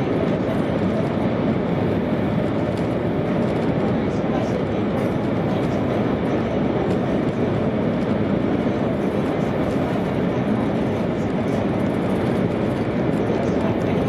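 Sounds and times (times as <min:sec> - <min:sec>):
train interior rumble: 0:00.0 - 0:14.0.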